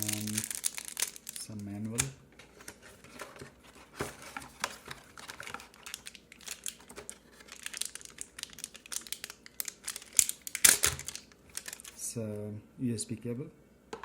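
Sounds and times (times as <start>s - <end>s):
packaging rustling and crinkling: 0.0s - 12.1s.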